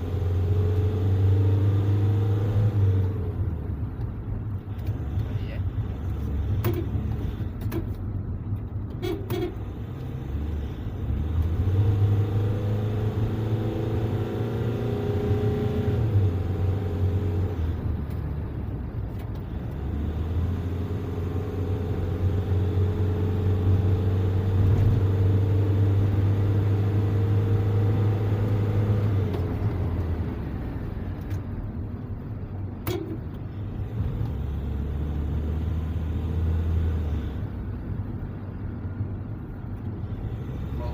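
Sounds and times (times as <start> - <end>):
vehicle engine humming: 0.0 - 40.9.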